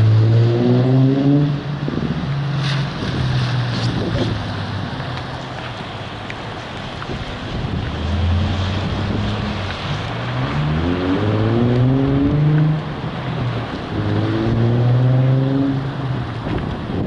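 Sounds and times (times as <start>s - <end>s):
car engine accelerating: 0.0s - 5.6s, 7.6s - 16.7s
road and wind noise: 0.0s - 17.0s.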